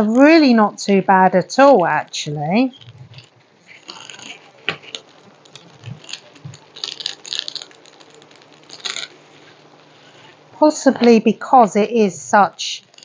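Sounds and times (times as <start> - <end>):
plastic cover crinkling: 0.0 - 11.3, 12.3 - 13.0.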